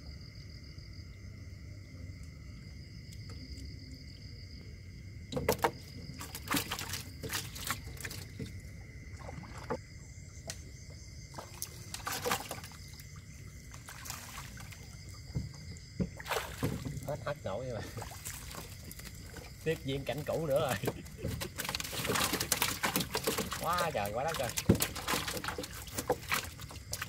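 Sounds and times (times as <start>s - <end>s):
water splashing and sloshing: 2.5s - 27.0s.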